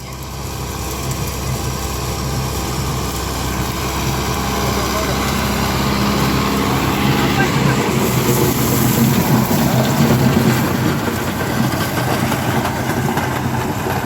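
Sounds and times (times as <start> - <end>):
rotary tiller working: 0.0 - 14.0
tractor diesel engine running: 0.0 - 14.0.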